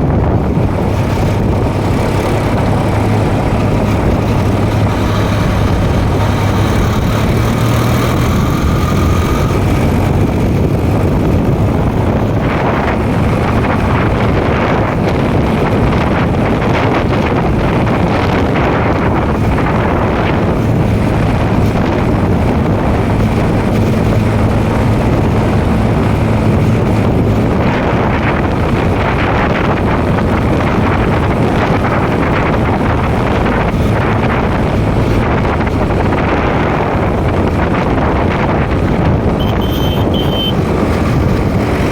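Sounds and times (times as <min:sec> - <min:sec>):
tractor engine running: 0:00.0 - 0:41.9
wind noise on microphone: 0:00.0 - 0:41.9.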